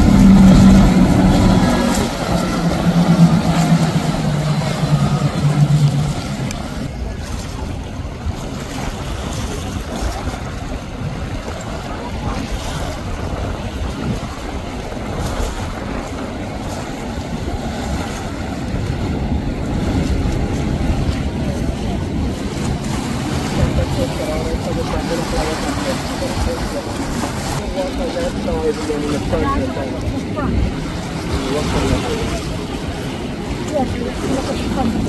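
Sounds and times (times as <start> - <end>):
motorboat engine drone: 0.0 - 35.0
rushing water: 0.0 - 35.0
wind: 0.0 - 35.0.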